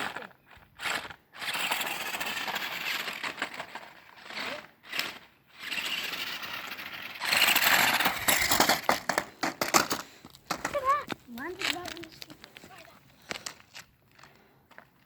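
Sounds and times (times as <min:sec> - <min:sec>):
toy truck motor and gears whirring: 0:00.0 - 0:12.8.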